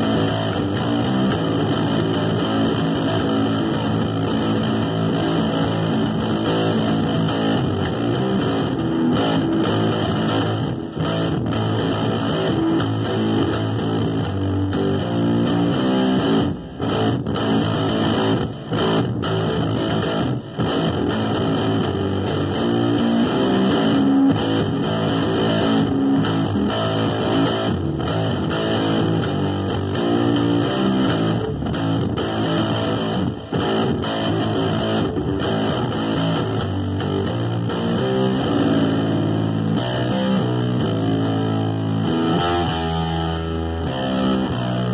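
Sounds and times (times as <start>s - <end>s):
electric bass guitar playing rock: 0.0s - 44.9s.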